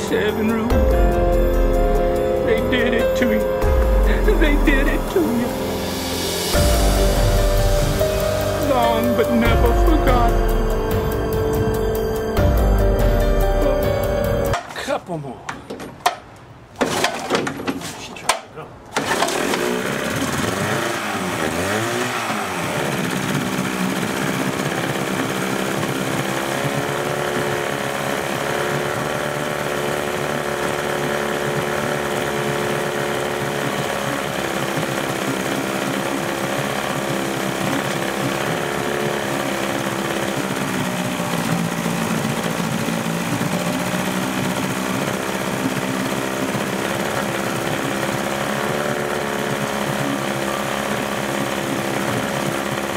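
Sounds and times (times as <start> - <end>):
outboard motor revving and idling: 0.0 - 14.6, 19.0 - 52.9.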